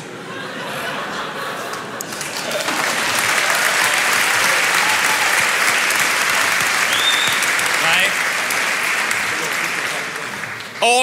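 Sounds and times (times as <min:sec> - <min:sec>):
audience applause: 0:01.8 - 0:11.0.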